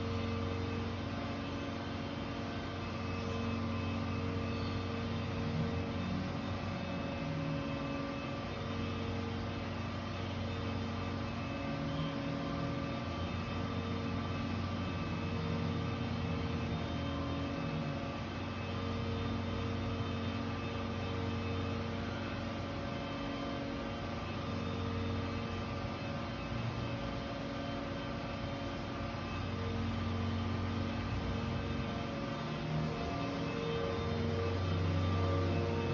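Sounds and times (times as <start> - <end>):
mechanical drone with low hum: 0.0 - 35.9.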